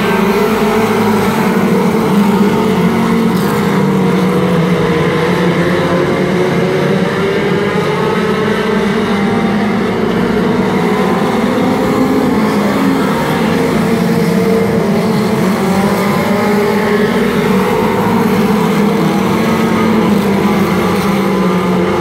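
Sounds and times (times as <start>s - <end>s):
race car engines: 0.0s - 22.0s.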